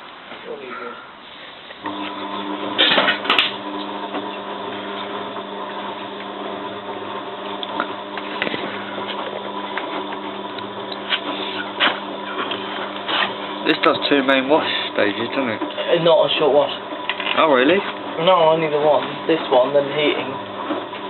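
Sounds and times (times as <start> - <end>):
washing machine humming: 1.8 - 21.0.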